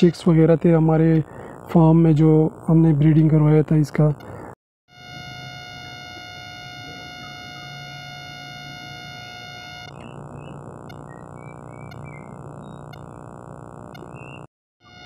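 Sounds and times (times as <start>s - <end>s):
steady buzzing tone: 0.0s - 15.0s.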